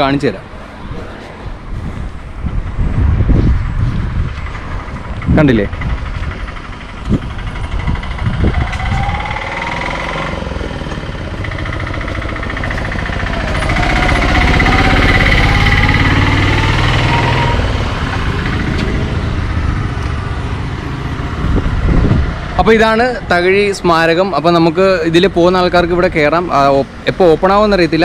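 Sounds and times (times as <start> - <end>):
diesel vehicle passing: 0.0 - 28.0.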